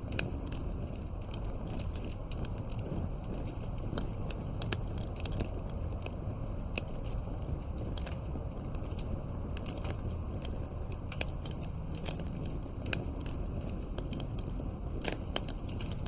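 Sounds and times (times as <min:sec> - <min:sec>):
low rumble of flames: 0:00.0 - 0:16.0
wood crackling and popping: 0:00.0 - 0:16.0.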